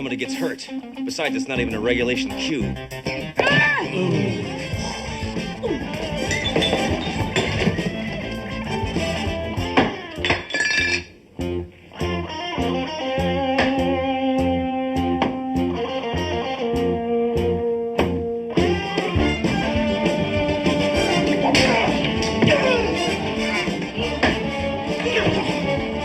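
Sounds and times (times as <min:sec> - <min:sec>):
electric guitar instrumental music: 0:00.0 - 0:10.5, 0:11.3 - 0:26.0.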